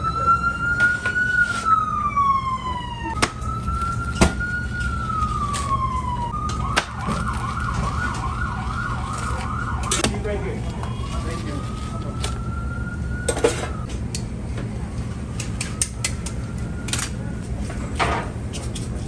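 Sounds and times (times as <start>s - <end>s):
emergency vehicle siren: 0.0s - 13.9s, 14.7s - 18.3s.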